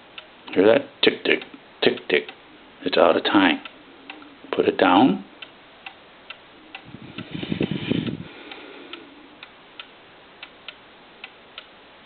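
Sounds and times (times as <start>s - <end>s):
clock ticking unevenly: 0.1s - 4.3s, 4.9s - 11.8s.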